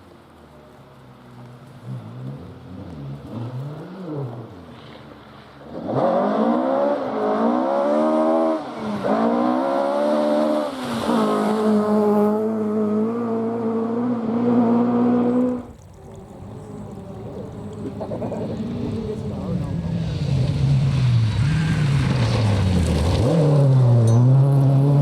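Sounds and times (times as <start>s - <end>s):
rally car engine at full throttle: 0.5s - 25.0s.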